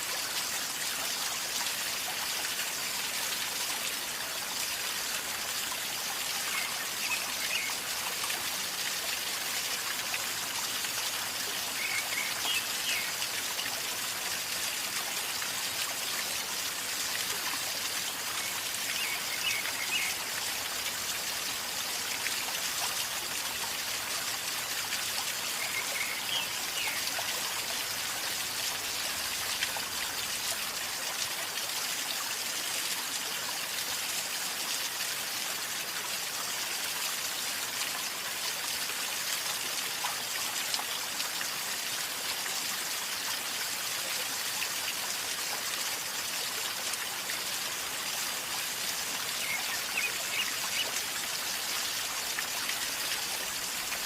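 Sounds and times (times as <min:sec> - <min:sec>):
river water gurgling: 0:00.0 - 0:32.1, 0:38.4 - 0:54.0.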